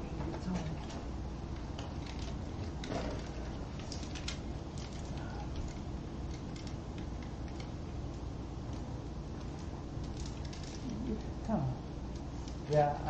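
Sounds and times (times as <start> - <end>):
small clicks and rustles: 0.2 - 12.8.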